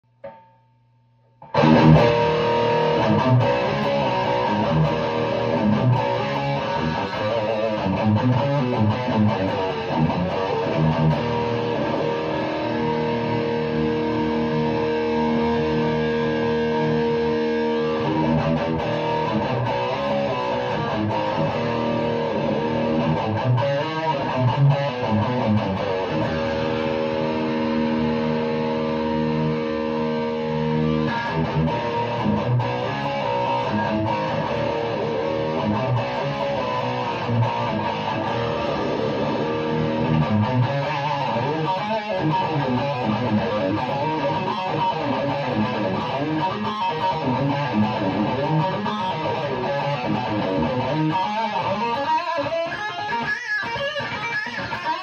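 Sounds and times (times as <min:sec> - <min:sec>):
electric guitar through amplifier: 0:00.1 - 0:55.0.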